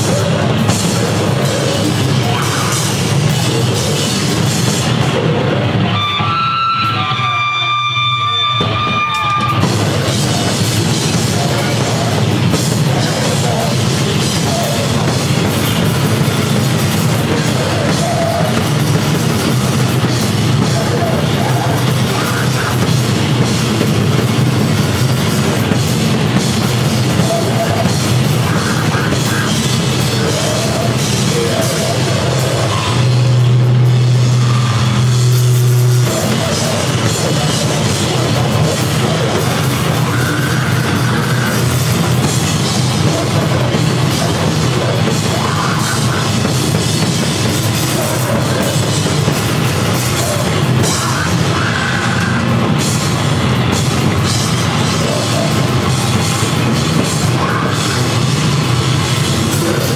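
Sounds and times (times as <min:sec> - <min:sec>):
distorted bass: 0:00.0 - 0:59.9
drum kit pounding: 0:00.0 - 0:59.9
grindcore band playing: 0:00.0 - 0:59.9.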